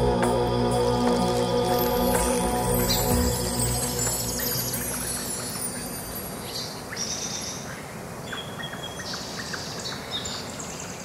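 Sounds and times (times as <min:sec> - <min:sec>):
birds chirping and trilling: 0:00.0 - 0:11.0
steady outdoor hiss: 0:00.0 - 0:11.0.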